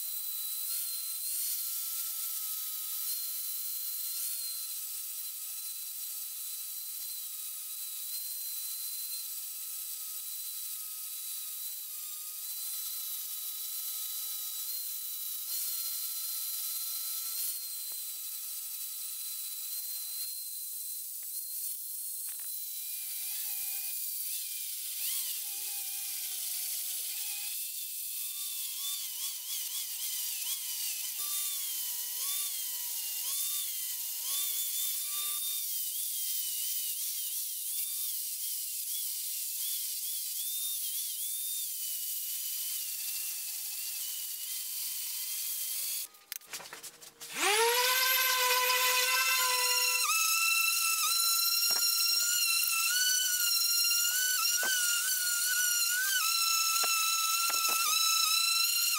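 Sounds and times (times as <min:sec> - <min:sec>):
angle grinder grinding metal: 0:00.0 - 0:58.9.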